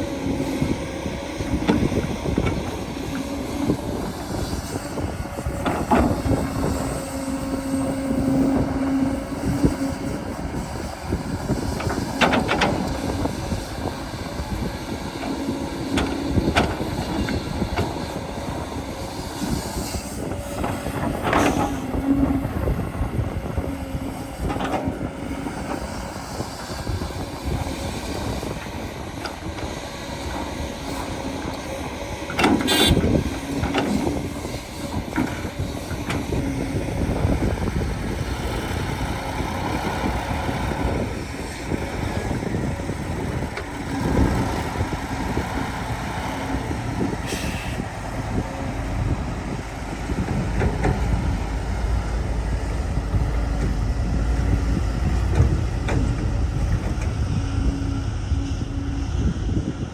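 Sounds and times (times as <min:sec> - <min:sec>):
diesel engines rumbling: 0:00.0 - 0:59.9
machinery clanks and knocks: 0:00.2 - 0:59.0.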